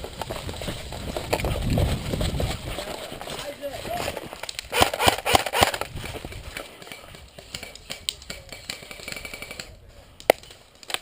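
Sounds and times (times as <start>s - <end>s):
quick footsteps: 0.0s - 9.2s.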